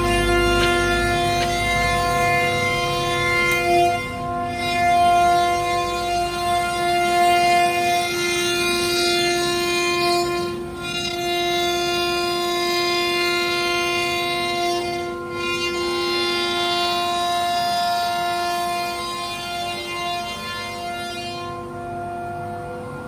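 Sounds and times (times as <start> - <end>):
router spindle whining: 0.0 - 23.0.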